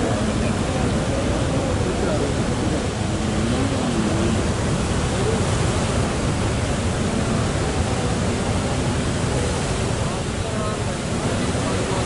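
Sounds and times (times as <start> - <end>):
heavy breaking surf: 0.0 - 12.0.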